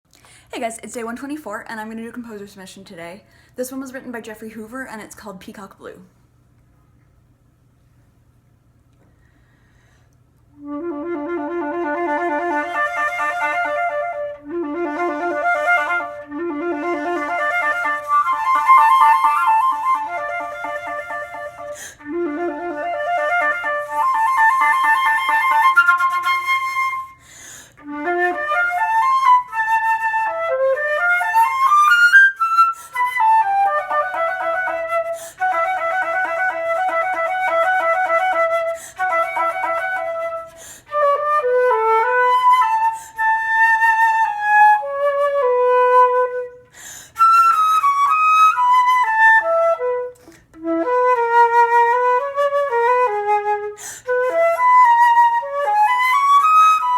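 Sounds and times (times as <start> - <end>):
flute playing: 10.5 - 56.9.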